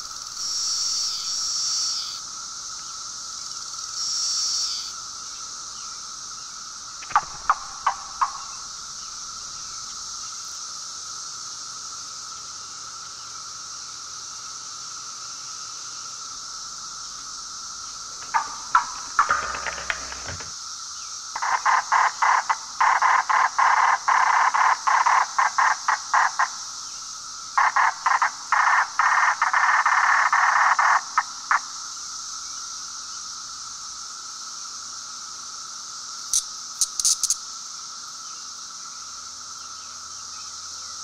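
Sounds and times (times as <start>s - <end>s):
cicada buzzing in bursts: 0.0s - 41.0s.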